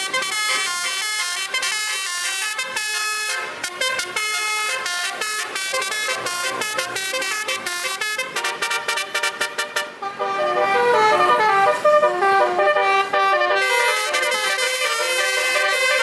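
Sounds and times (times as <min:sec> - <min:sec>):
musical air horn playing tune: 0:00.0 - 0:16.0.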